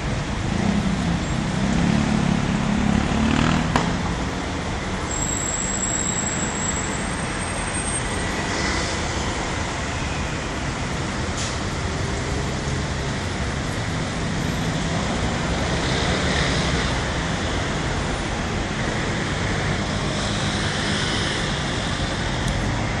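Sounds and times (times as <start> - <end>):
city traffic roar: 0.0 - 23.0.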